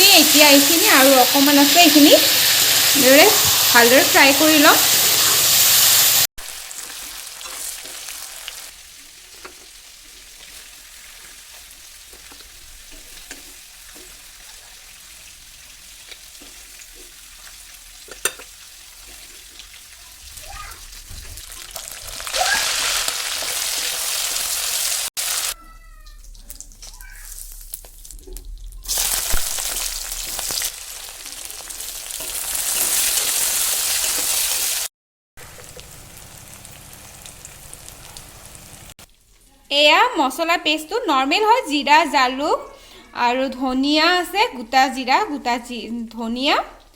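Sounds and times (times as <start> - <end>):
chicken frying in hot oil: 0.0 - 39.7
stirring in a pan: 0.4 - 38.4.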